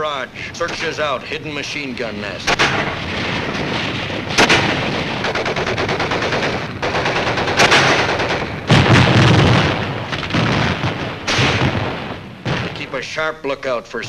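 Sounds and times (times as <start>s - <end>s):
deep explosive blasts: 0.0s - 14.0s
machine-gun fire: 0.5s - 13.1s.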